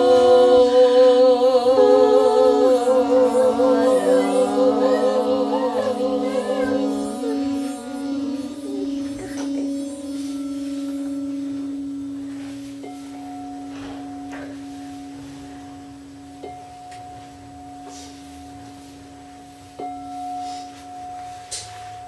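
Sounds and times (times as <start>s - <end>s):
higher singing bowl struck: 0.0s - 18.9s
low singing bowl steady tone: 0.0s - 22.0s.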